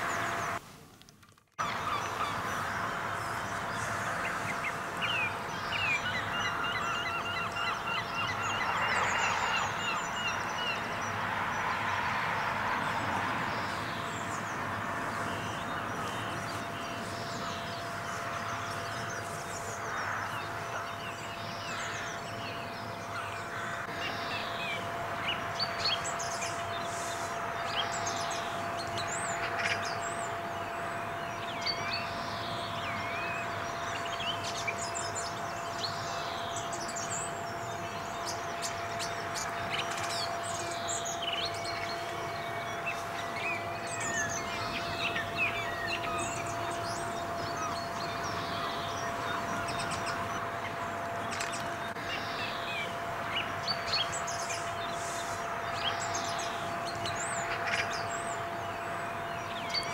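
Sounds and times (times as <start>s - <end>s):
waterbirds calling: 0.0s - 0.6s, 1.6s - 59.9s
faint steady hum: 0.0s - 59.9s
small birds chirping: 1.6s - 59.9s.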